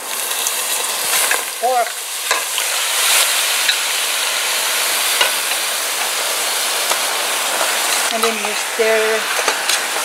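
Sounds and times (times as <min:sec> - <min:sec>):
sugar sizzling in a pot: 0:00.0 - 0:10.0.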